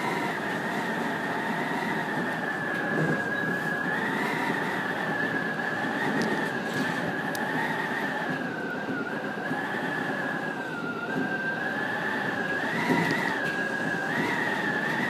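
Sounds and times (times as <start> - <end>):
high wavering whine: 0.0 - 15.0
train running rumble: 0.0 - 15.0.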